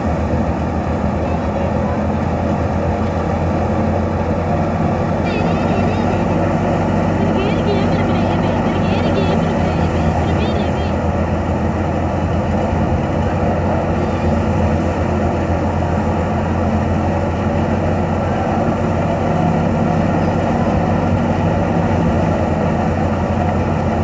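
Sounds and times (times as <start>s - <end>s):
tractor engine and thresher drone: 0.0s - 24.0s.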